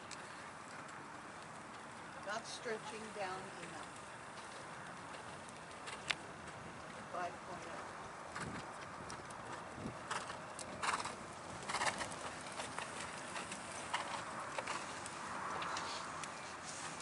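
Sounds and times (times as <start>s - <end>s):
horse hoofbeats on dirt: 0.8s - 17.0s.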